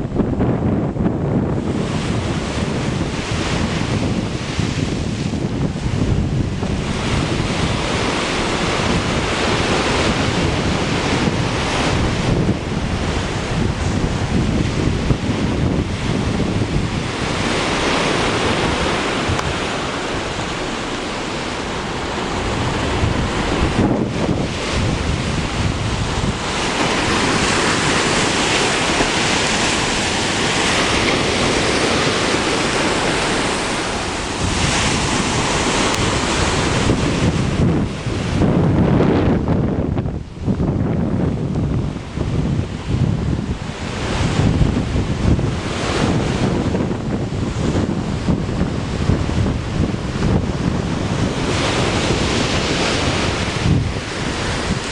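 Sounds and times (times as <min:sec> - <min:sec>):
heavy waves washing: 0:00.0 - 0:54.9
strong wind blasting microphone: 0:00.0 - 0:54.9.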